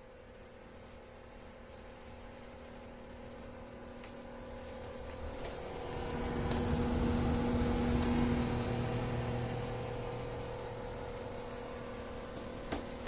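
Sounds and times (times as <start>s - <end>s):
fan heater motor hum: 0.0s - 13.0s
fan rushing: 1.8s - 13.0s.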